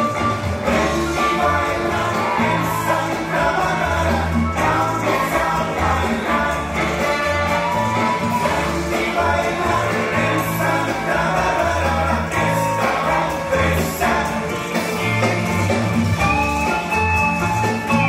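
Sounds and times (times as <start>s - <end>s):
cha-cha-cha dance music with vocals: 0.0s - 18.0s.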